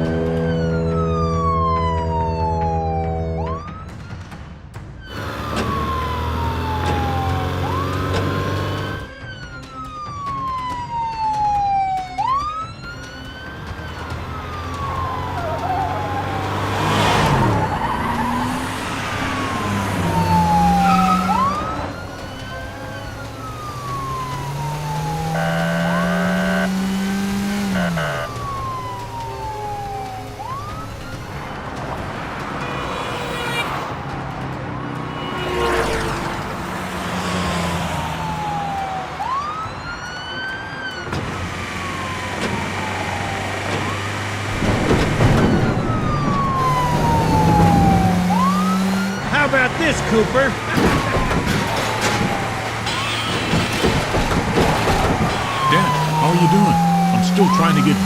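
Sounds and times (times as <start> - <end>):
vehicle engines revving: 0.0 - 4.4, 5.0 - 9.2, 13.3 - 58.0
police siren wailing: 0.0 - 58.0.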